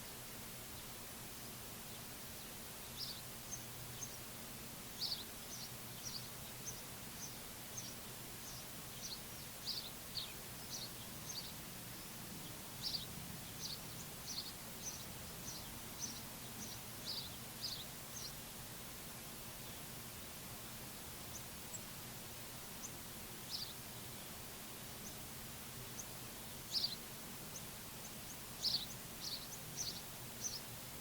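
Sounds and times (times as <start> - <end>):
steady background hiss: 0.0 - 31.0
small songbird chirping: 1.7 - 31.0.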